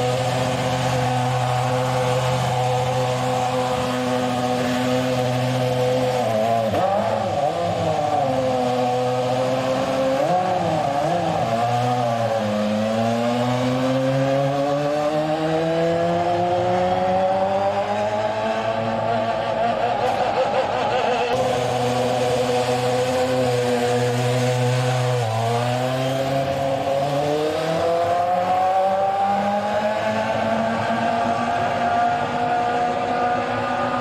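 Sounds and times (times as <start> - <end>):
racing car engine running: 0.0 - 34.0.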